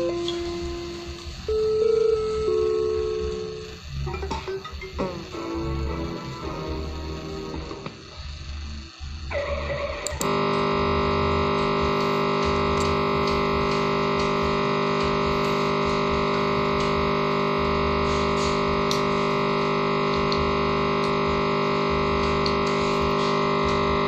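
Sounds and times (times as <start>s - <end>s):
laptop speakers buzzing drone: 0.0s - 24.0s.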